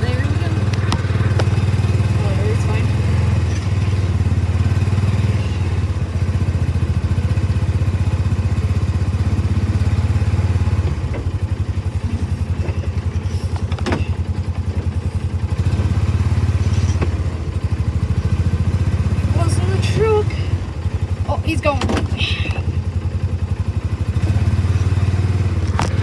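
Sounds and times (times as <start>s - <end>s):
truck engine throbbing: 0.0s - 26.0s.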